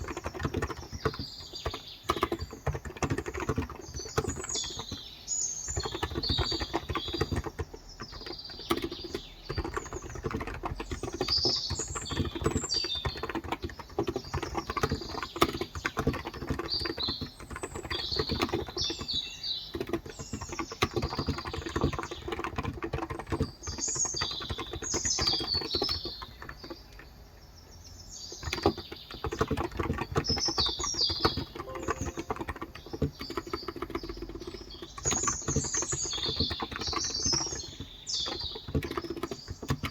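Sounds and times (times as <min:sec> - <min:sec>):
soft keyboard keystrokes: 0:00.0 - 0:05.1, 0:05.7 - 0:27.1, 0:28.4 - 0:39.9
birds chirping: 0:00.0 - 0:39.9.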